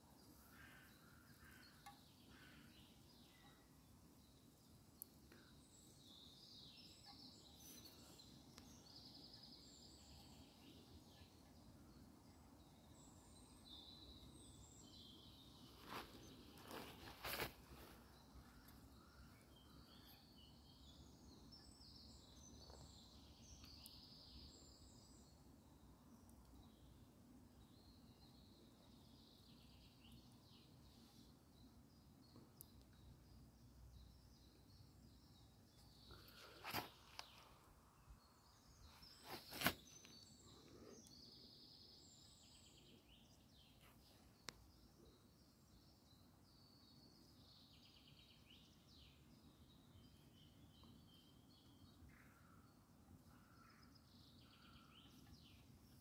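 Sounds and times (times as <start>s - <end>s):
faint birds chirping: 0.0s - 56.0s.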